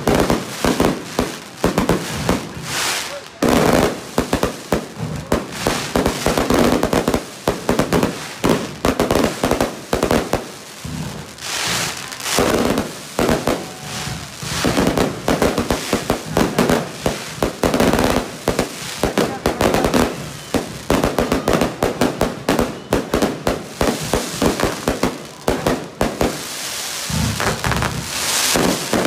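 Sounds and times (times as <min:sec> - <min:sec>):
fireworks bangs and crackling: 0:00.0 - 0:29.0
fireworks hissing: 0:00.0 - 0:29.0.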